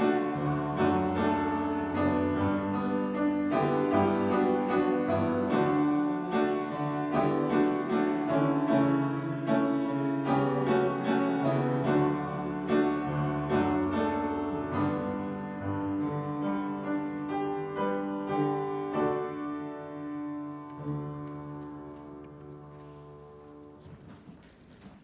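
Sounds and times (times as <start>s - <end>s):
solo piano playing a hymn: 0.0s - 24.4s.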